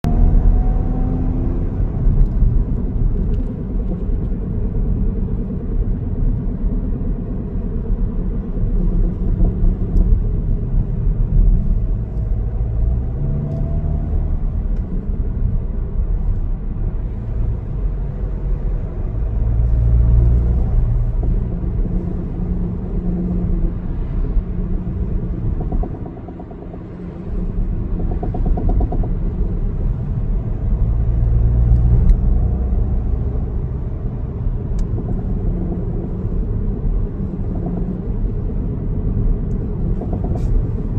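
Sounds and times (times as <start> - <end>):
car engine running: 1.6 - 40.9.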